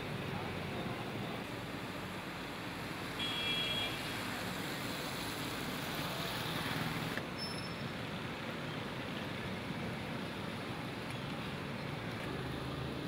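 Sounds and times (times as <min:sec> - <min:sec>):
outdoor street noise: 0:00.0 - 0:13.0.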